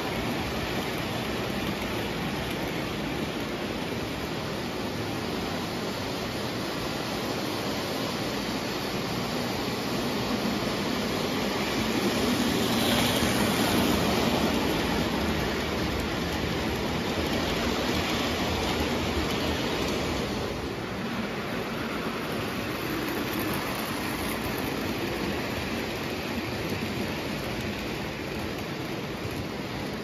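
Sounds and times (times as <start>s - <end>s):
model train wheels rumbling on rails: 0.0s - 30.0s.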